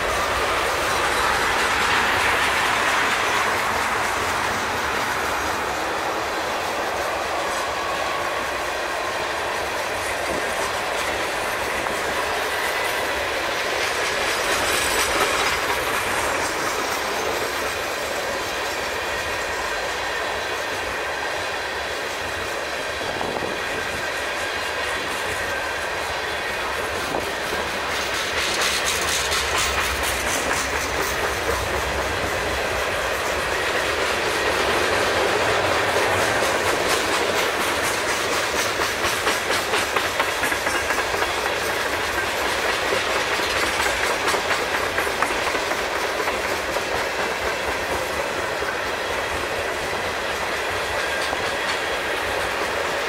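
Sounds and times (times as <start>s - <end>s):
wheels clicking over rail joints: 0.0s - 21.1s, 21.9s - 53.0s
train wheels rumbling on rails: 0.0s - 53.0s.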